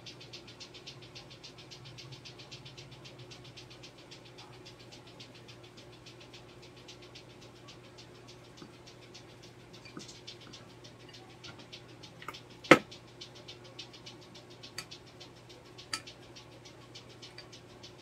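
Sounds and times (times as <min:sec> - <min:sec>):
faint steady hum: 0:00.0 - 0:18.0
fast even ticking: 0:00.0 - 0:18.0.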